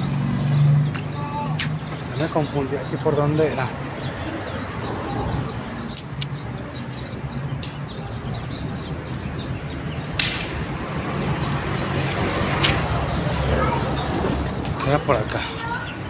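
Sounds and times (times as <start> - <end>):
low street rumble: 0.0 - 16.0.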